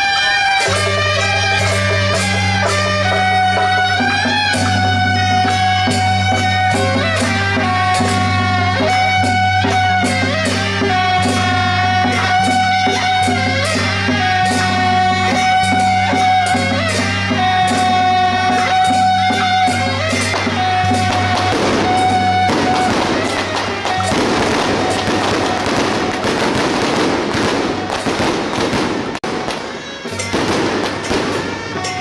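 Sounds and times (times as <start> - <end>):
brass horn melody: 0.0 - 32.0
drum beats: 0.0 - 32.0.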